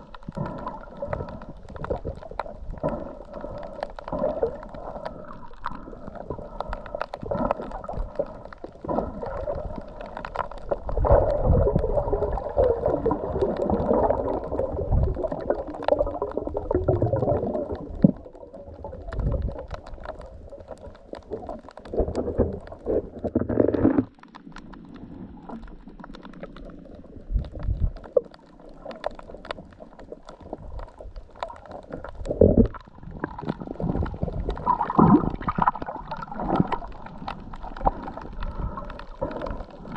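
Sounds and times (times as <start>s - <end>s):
muffled water gurgling and sloshing: 0.0s - 39.9s.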